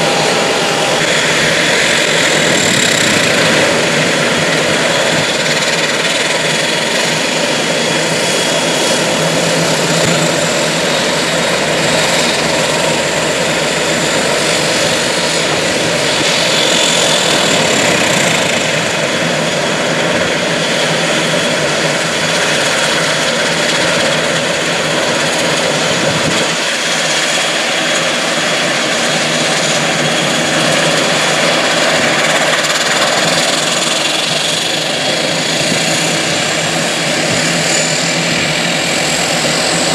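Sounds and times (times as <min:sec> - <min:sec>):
propellers droning: 0:00.0 - 0:39.9
turbine whine: 0:00.0 - 0:39.9.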